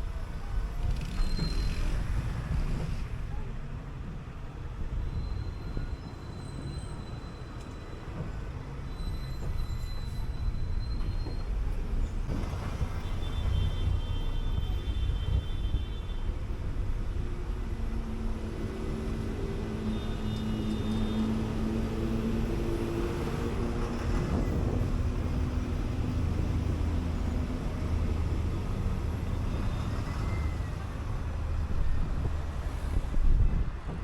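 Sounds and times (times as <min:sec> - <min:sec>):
bus engine rumble: 0:00.0 - 0:34.0
road noise: 0:00.0 - 0:34.0.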